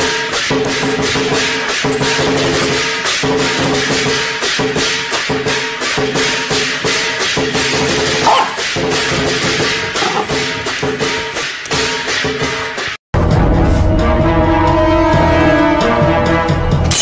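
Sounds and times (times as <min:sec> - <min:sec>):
background music with held tones: 0:00.0 - 0:17.0.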